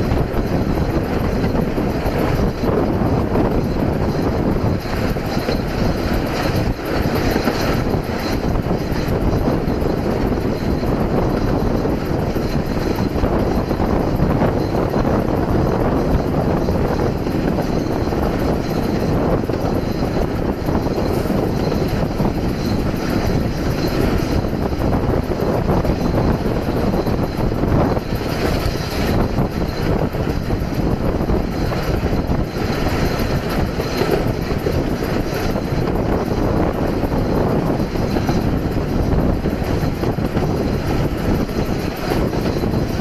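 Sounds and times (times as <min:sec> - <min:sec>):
train carriages rumbling and rattling: 0:00.0 - 0:43.0.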